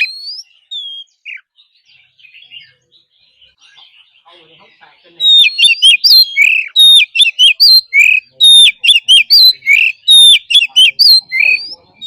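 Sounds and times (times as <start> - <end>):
magpie-robin singing: 0.0 - 12.0.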